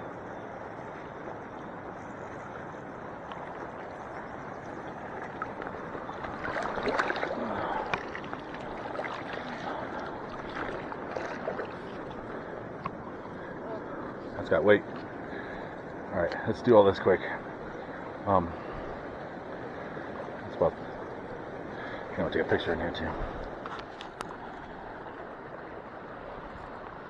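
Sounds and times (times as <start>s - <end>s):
feet wading in shallow water: 0.0s - 27.0s.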